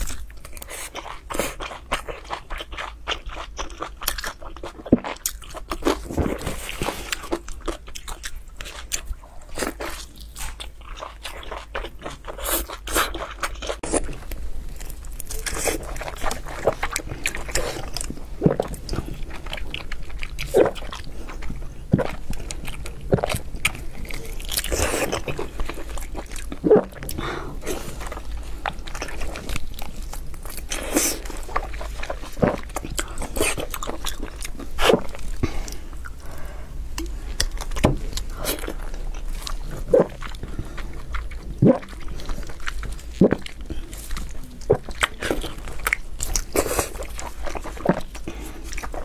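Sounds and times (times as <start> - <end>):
wet chewing and smacking: 0.0 - 49.0.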